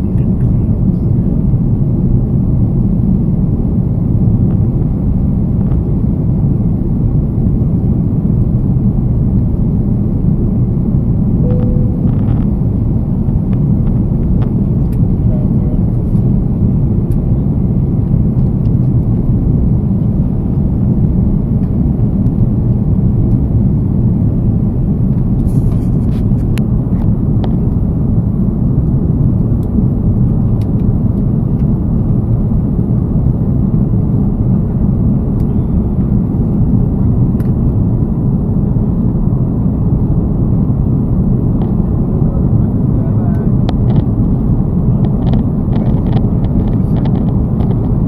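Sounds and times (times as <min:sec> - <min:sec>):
aircraft cabin engine rumble: 0:00.0 - 0:48.0.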